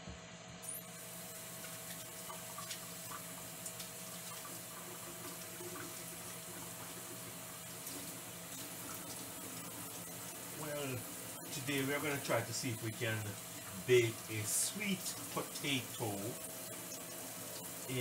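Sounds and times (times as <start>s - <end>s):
tap water running into sink: 1.2s - 18.0s.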